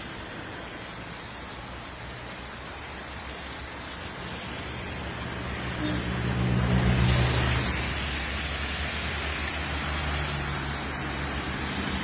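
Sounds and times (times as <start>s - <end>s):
rushing flood river: 0.0s - 12.0s
vehicle engine hum: 0.4s - 12.0s.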